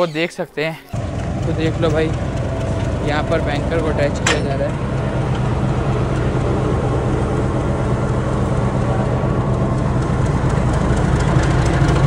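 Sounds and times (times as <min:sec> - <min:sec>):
diesel locomotive engine idling: 0:00.9 - 0:12.0.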